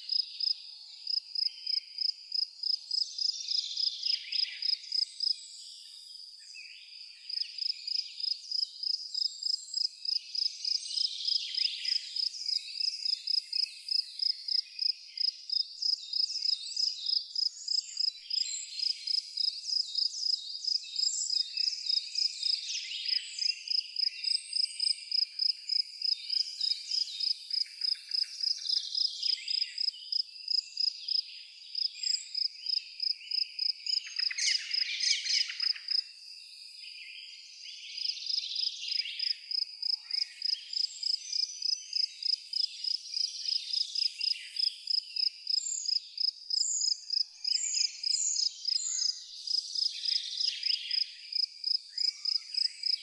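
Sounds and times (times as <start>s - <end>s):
cricket chirping: 0.1s - 5.7s, 7.3s - 36.8s, 38.0s - 53.0s
birds singing and chirping: 10.4s - 53.0s.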